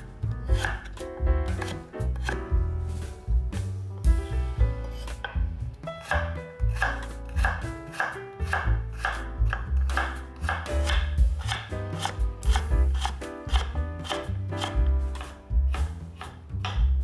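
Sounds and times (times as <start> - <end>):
knife chopping on cutting board: 0.5 - 2.5, 4.8 - 17.0.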